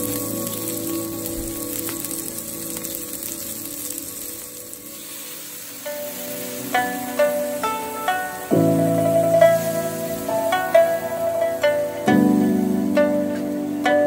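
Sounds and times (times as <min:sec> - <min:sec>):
onions sizzling in hot oil: 0:00.0 - 0:14.0
soft background music: 0:00.0 - 0:14.0.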